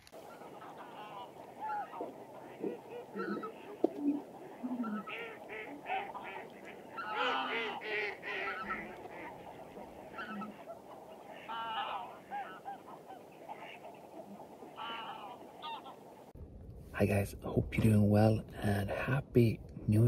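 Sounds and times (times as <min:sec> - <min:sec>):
waterfowl honking: 0:00.0 - 0:16.3.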